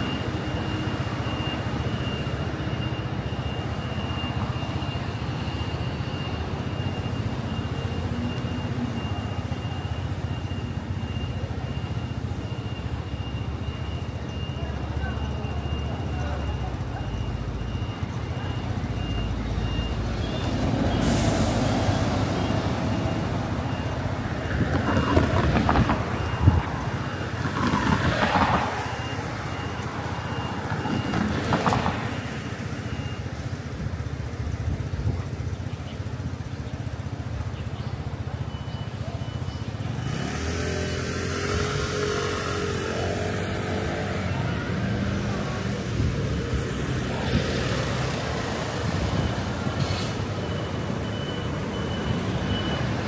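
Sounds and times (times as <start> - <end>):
high electronic beep: 0.0 - 33.3, 37.8 - 53.0
vehicles passing: 0.0 - 53.0.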